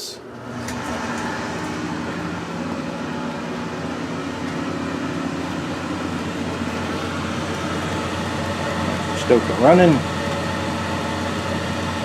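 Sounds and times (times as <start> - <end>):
stoker motor humming: 0.0 - 12.0.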